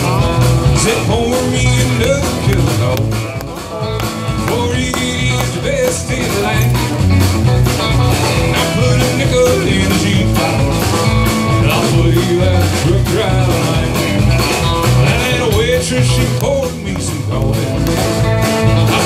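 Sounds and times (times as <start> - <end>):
country rock band playing: 0.0 - 19.0.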